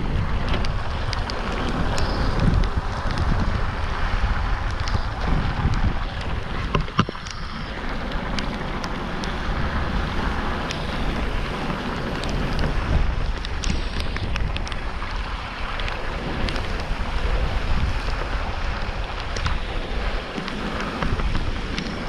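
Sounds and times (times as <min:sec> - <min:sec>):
rushing rain: 0:00.0 - 0:22.0
wind buffeting microphone: 0:00.0 - 0:22.0.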